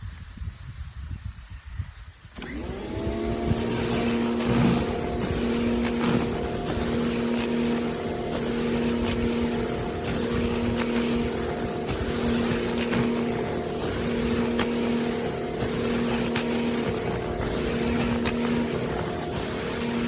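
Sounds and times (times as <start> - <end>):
pressure washer motor humming: 2.4 - 20.0
water spraying hiss: 2.6 - 20.0.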